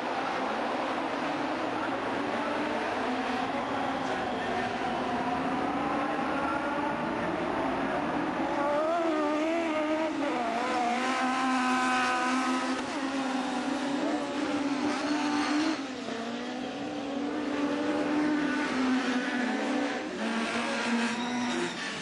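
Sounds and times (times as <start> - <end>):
race car engines revving: 0.0 - 22.0.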